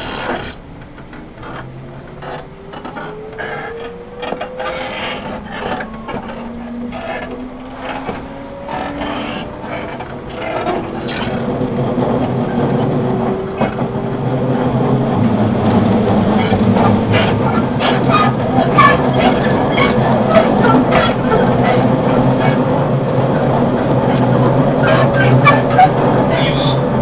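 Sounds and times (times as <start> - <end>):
train motors whining: 0.0 - 27.0
train running gear rattling: 0.0 - 27.0.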